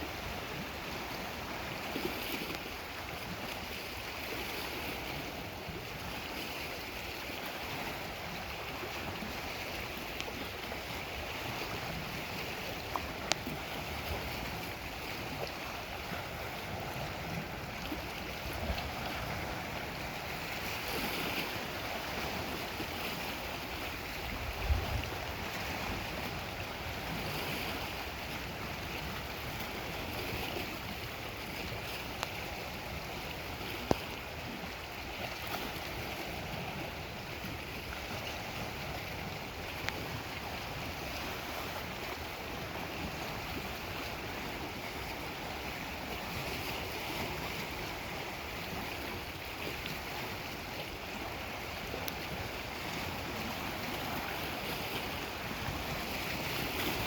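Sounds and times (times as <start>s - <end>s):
waves washing against shore: 0.0s - 57.0s.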